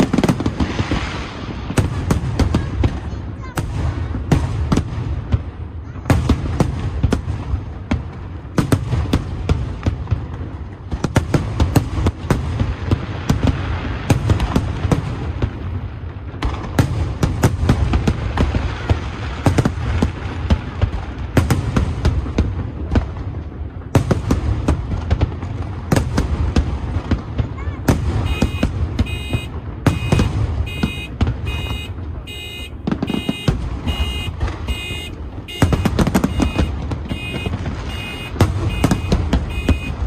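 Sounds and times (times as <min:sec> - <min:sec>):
fireworks bursting: 0:00.0 - 0:40.0.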